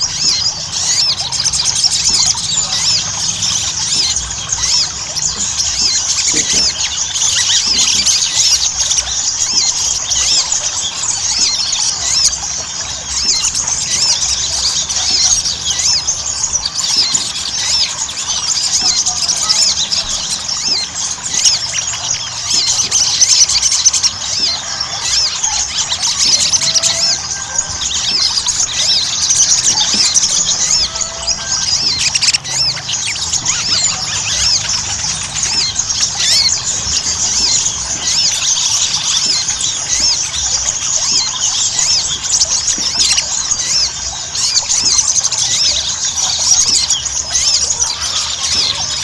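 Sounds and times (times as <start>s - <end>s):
songbird chirping and trilling: 0.0s - 49.0s.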